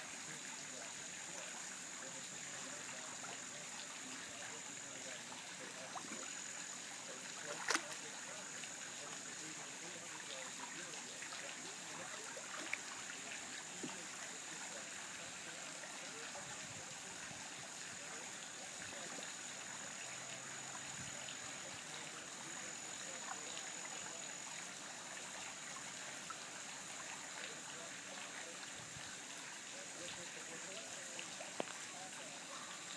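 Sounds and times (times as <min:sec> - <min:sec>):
light water splashes: 0:00.0 - 0:32.9
pool water trickling and churning: 0:00.0 - 0:32.9.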